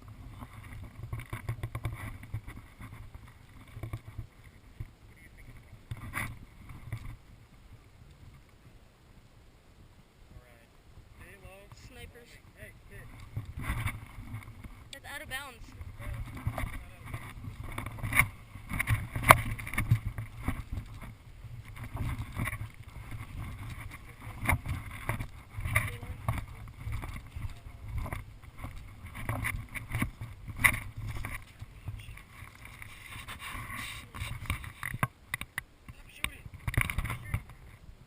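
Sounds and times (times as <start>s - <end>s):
low rumble on microphone: 0.0s - 35.1s.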